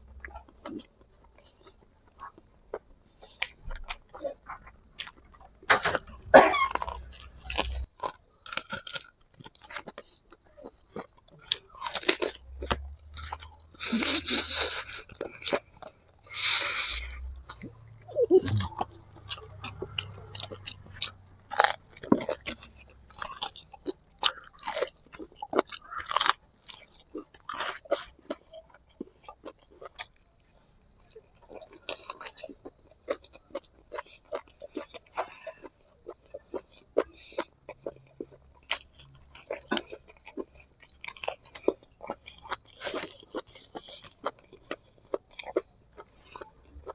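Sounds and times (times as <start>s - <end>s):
chewing with wet smacks: 0.0s - 46.9s.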